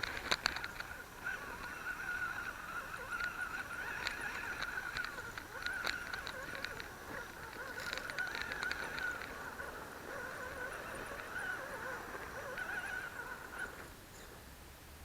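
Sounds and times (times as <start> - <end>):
electric motor whining: 0.0 - 14.4
tyres clicking over rocks: 0.0 - 14.4.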